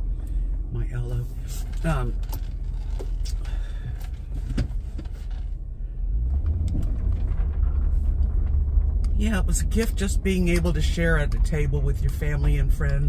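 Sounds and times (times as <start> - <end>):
engine and road rumble: 0.0 - 13.0
light clicks and rattles: 0.1 - 5.6, 6.2 - 13.0.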